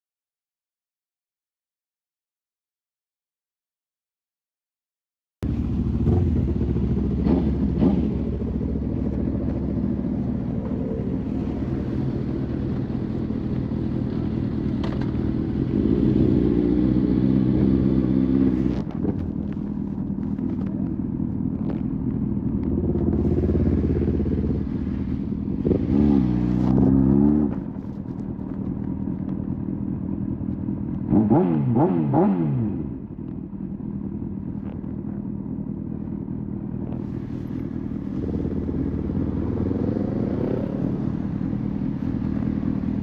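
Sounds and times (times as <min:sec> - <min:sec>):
motorcycle engine running: 0:05.4 - 0:43.0.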